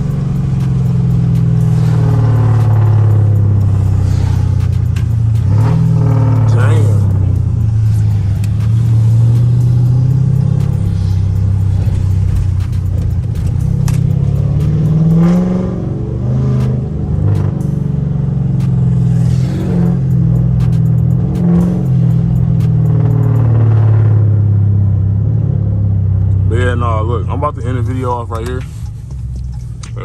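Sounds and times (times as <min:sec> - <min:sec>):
deep exhaust rumble: 0:00.0 - 0:30.0.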